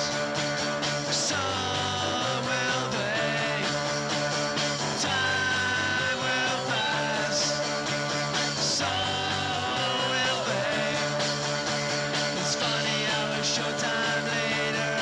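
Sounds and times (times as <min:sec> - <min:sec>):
punk rock band playing: 0:00.0 - 0:15.0.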